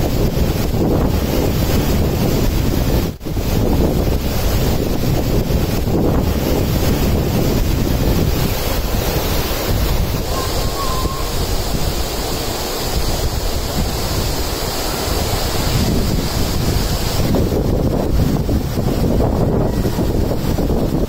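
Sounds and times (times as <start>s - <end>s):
waterfall roaring: 0.0s - 21.0s
wind buffeting microphone: 0.0s - 21.0s.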